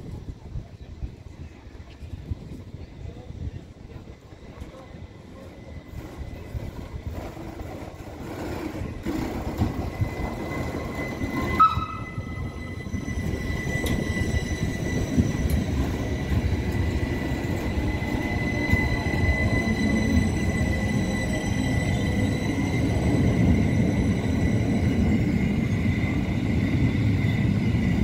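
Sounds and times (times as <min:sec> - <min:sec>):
rail vehicle rumbling: 0:00.0 - 0:28.0.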